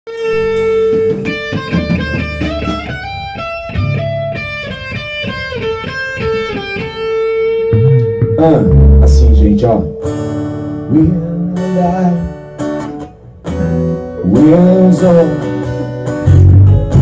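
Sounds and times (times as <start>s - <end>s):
plucked guitar melody: 0.1s - 17.0s.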